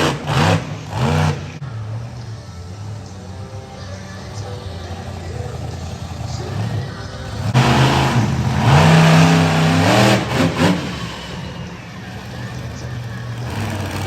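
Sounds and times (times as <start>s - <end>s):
monster truck engine revving: 0.0s - 2.0s, 3.6s - 14.0s.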